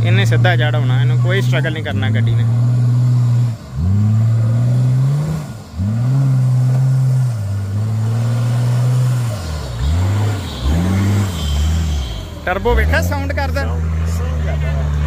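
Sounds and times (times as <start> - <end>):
engine revving hard under load: 0.0 - 15.0.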